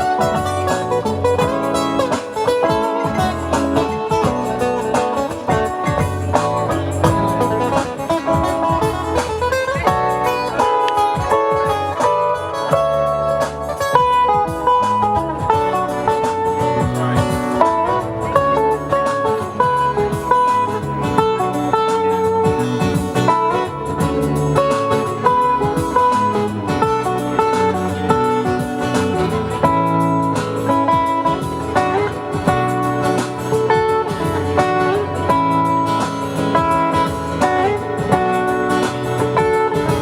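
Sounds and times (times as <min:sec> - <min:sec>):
guitar melody: 0:00.0 - 0:40.0.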